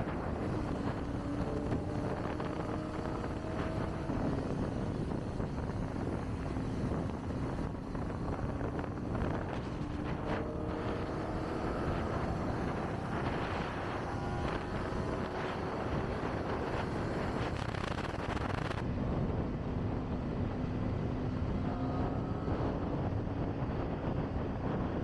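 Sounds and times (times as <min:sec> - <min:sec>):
motorcycle engine accelerating: 0:00.0 - 0:25.0
wind rush on microphone: 0:00.0 - 0:25.0.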